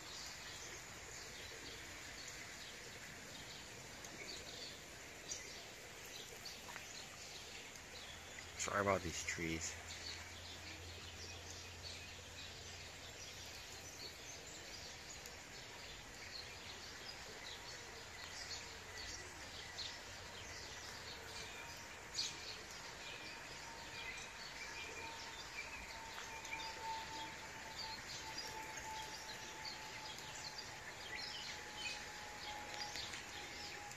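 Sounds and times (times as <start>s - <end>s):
faint steady tone: 0.0s - 33.9s
small birds chirping: 0.0s - 33.9s
steady background hiss: 0.0s - 33.9s.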